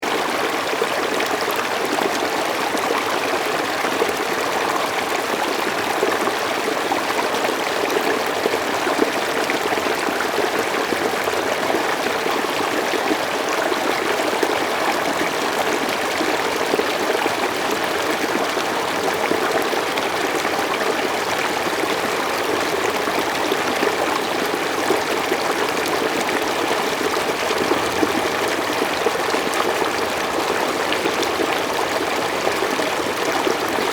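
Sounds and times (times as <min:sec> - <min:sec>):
running water: 0:00.0 - 0:33.9.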